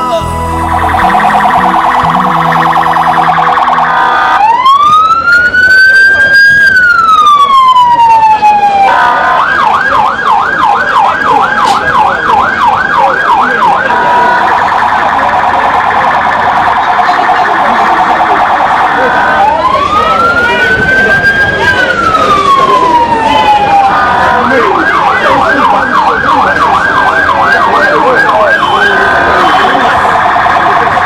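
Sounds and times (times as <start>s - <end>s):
electronic vehicle siren: 0.0s - 31.0s.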